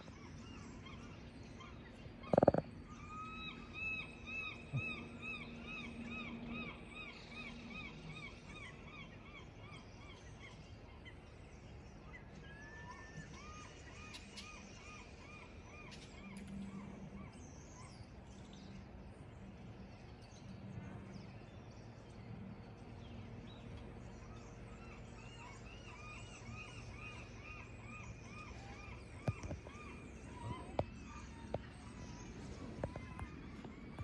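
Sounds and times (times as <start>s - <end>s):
bird chirping: 0.0s - 34.0s
low steady hum: 0.0s - 34.0s.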